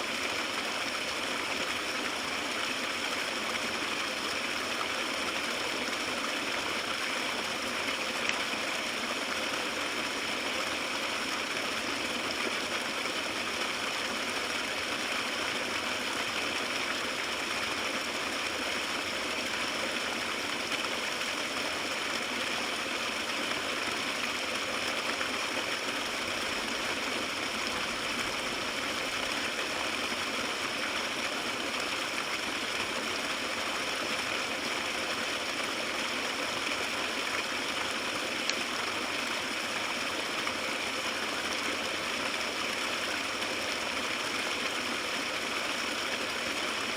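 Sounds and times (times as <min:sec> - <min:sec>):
stream gurgling over rocks: 0:00.0 - 0:46.9.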